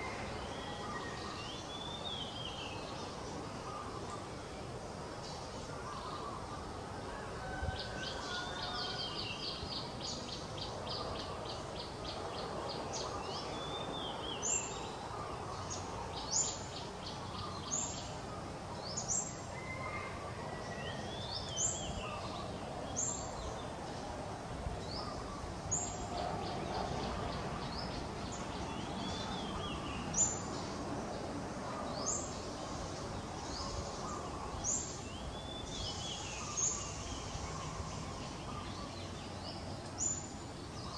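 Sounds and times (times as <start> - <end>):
outdoor background noise: 0.0 - 40.9.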